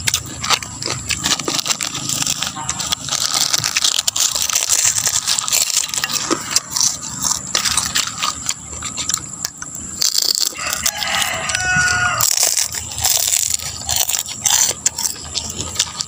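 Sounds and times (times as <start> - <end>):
crunchy fried skin chewing: 0.0 - 16.0.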